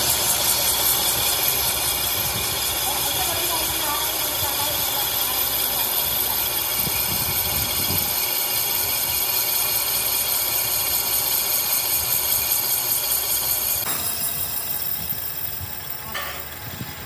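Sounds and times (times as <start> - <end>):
lathe machining with high whine: 0.0 - 17.0.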